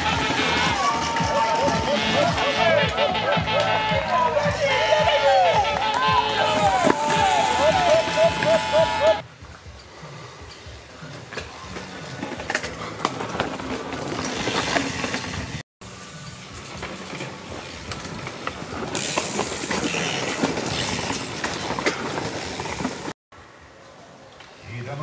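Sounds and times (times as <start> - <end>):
rattling clicks of bikes: 0.0 - 3.8, 5.8 - 23.1
mountain bike tyre noise: 0.0 - 23.2.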